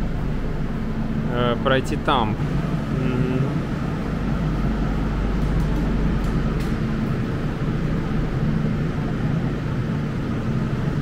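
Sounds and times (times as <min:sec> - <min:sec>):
electric train humming: 0:00.0 - 0:11.0.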